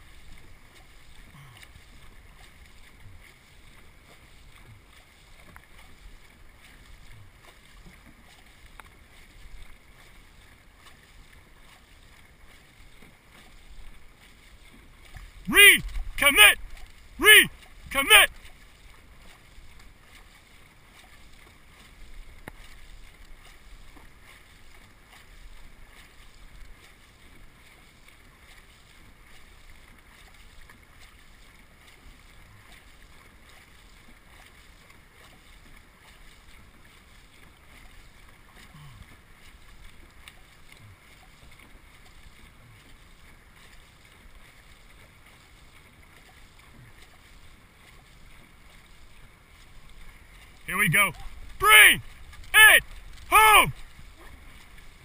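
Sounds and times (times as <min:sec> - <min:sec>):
water washing along boat hull: 0:00.0 - 0:55.0.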